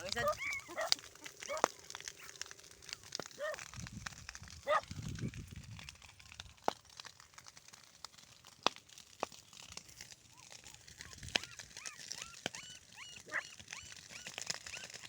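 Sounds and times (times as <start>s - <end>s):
debris crinkling and crackling: 0.0s - 15.0s.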